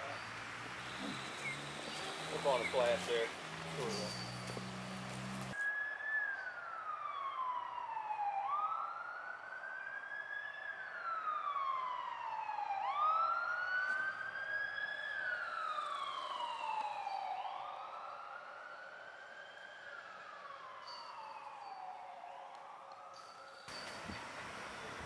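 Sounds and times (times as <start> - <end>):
emergency vehicle siren wailing: 0.0 - 25.0.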